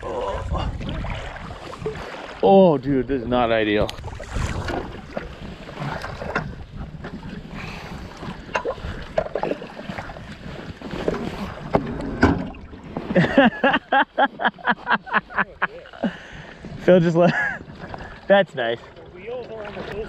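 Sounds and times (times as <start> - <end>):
water sloshing and splashing: 0.0 - 20.0
wind buffeting microphone: 0.0 - 20.0.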